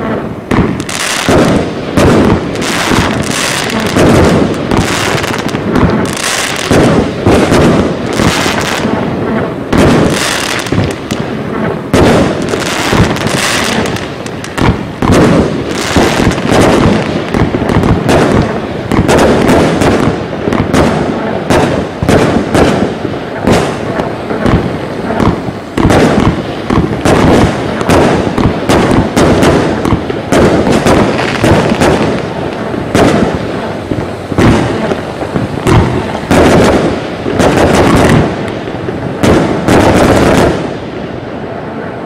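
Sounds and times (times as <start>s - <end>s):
firework launches and crackling bursts: 0.0s - 42.0s.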